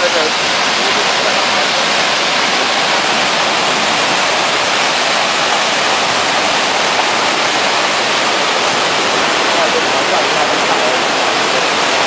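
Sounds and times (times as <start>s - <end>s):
heavy rain: 0.0s - 12.0s
strong wind rushing: 0.0s - 12.0s.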